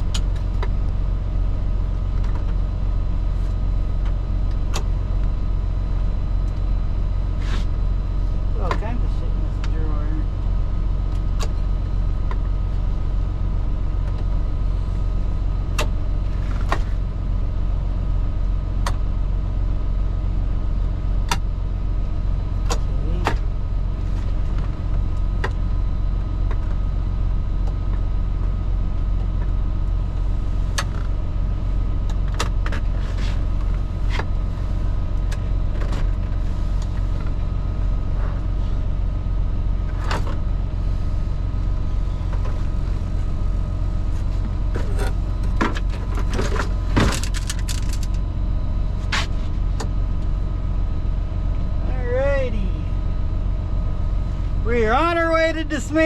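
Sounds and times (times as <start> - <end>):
diesel engine idling: 0.0 - 56.0
faint steady whine: 0.0 - 56.0.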